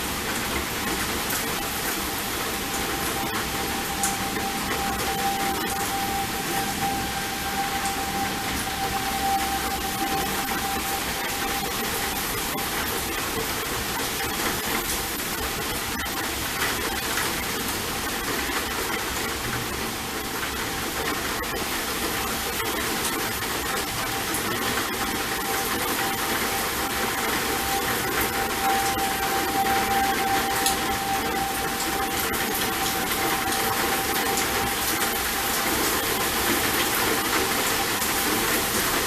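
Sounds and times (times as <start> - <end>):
distant warning siren steady tone: 0.0 - 39.0.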